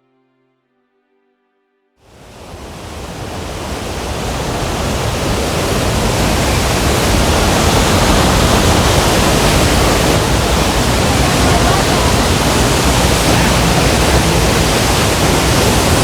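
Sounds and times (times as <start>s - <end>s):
waterfall rushing: 2.1s - 16.0s.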